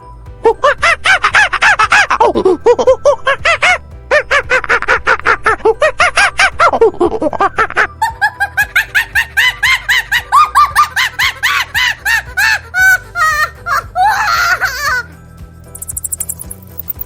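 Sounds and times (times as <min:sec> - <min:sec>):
monkey chattering: 0:00.5 - 0:15.0, 0:15.7 - 0:17.0.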